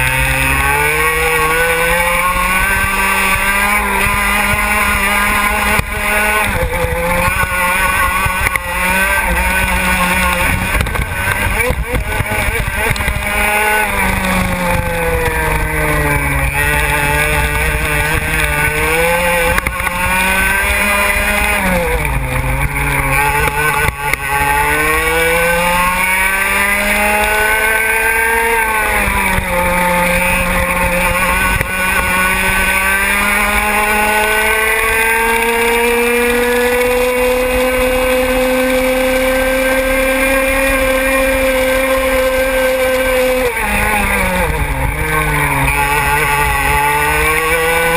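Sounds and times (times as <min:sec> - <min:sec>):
kart engine revving: 0:00.0 - 0:47.9.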